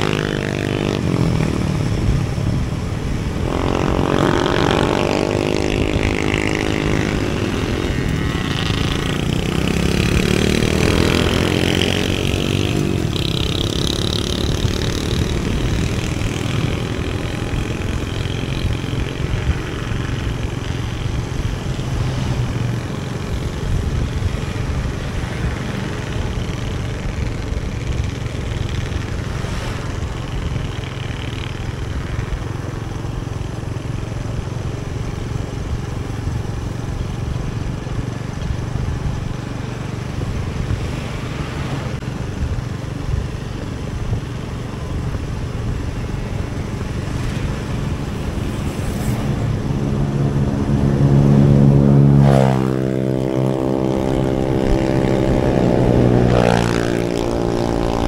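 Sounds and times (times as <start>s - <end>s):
motorcycle engine and road noise: 0.0s - 58.0s.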